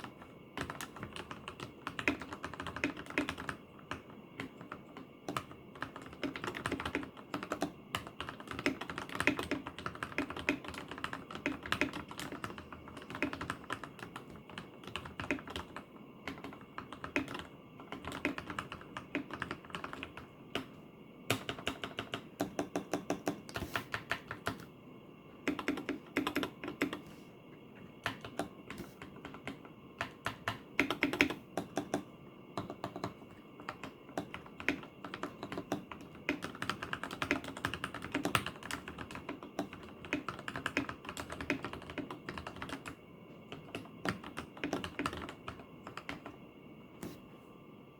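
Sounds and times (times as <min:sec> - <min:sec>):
mechanical keyboard typing: 0:00.0 - 0:20.7, 0:21.3 - 0:24.7, 0:25.4 - 0:27.0, 0:28.0 - 0:46.4.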